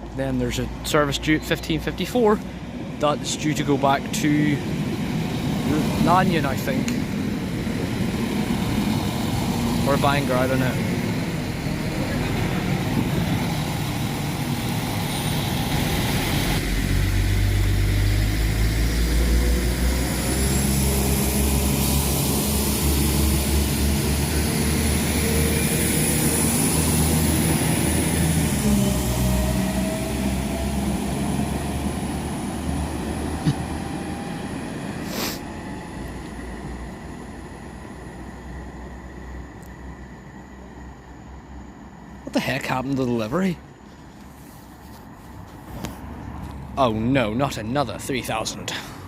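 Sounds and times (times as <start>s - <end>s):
diesel railcar engine running: 0.0s - 49.0s.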